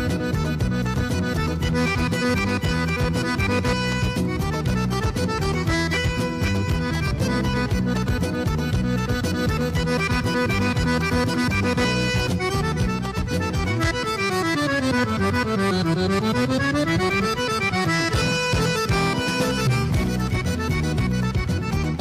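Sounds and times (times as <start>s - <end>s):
accordion playing: 0.0s - 22.0s.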